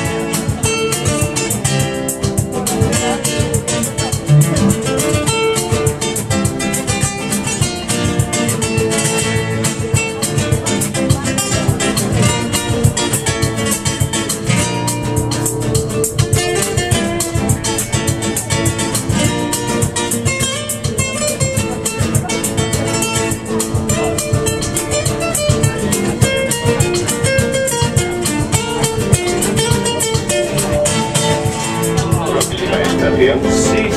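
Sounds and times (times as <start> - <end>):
acoustic guitars strummed: 0.0 - 33.9.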